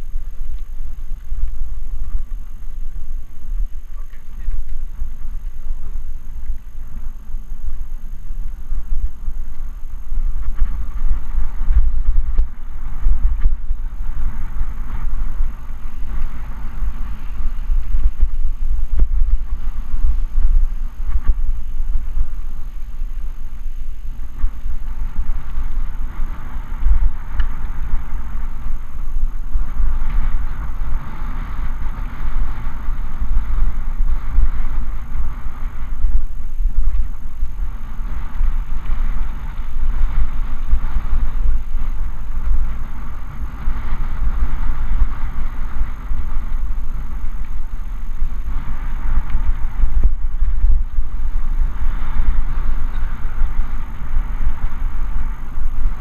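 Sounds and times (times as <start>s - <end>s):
bike tyres rolling on dirt: 0.0s - 56.0s
wind buffeting microphone: 0.0s - 56.0s.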